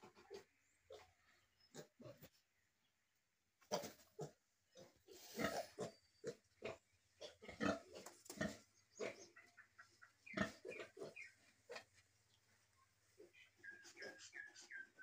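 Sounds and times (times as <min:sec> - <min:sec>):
piglets grunting and squeaking: 0:00.0 - 0:02.4, 0:03.6 - 0:12.0, 0:13.1 - 0:15.0.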